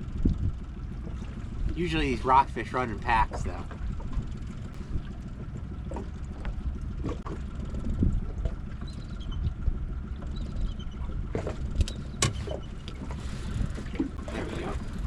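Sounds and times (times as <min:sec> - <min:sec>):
water moving around boat: 0:00.0 - 0:15.0
wind rumbling on microphone: 0:00.0 - 0:15.0.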